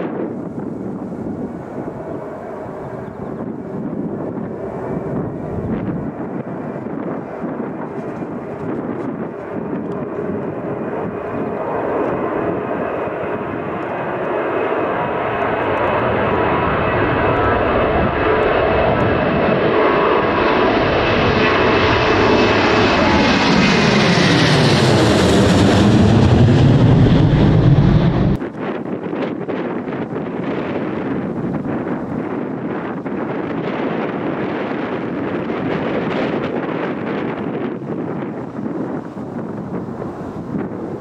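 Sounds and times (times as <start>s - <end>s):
airliner engines passing: 0.0s - 41.0s.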